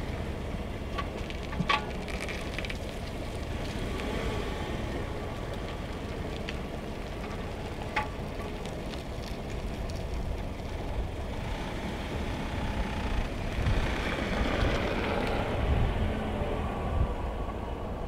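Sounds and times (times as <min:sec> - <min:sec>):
car driving on tarmac: 0:00.0 - 0:18.0.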